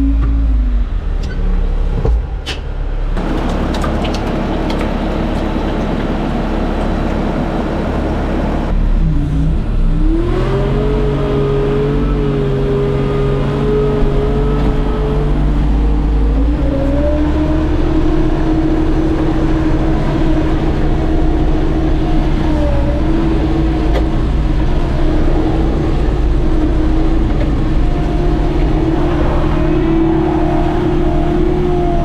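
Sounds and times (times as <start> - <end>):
diesel engine running: 0.0 - 32.0
engine whine: 0.0 - 32.0.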